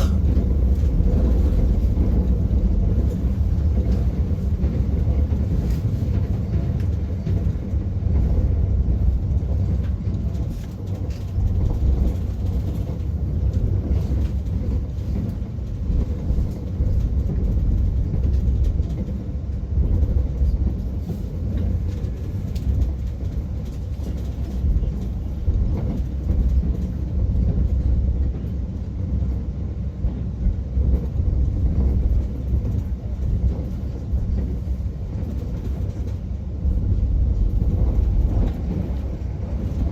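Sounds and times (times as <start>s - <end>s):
train rumble from inside carriage: 0.0s - 39.9s.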